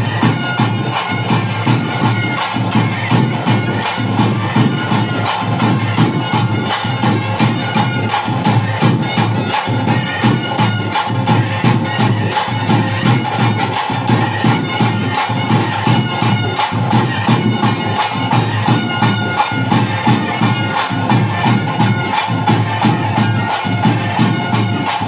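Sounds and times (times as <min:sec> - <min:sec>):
continuous drumming: 0:00.0 - 0:25.0
reedy wind instrument: 0:00.0 - 0:25.0.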